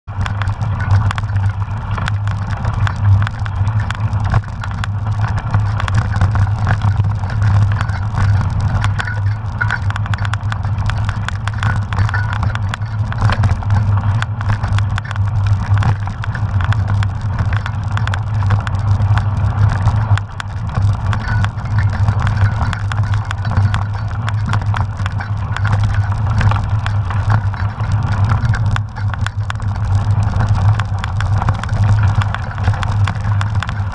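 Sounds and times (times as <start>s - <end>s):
bike rattling over bumps: 0.0s - 33.9s
bike tyres rumbling on dirt trail: 0.0s - 33.9s.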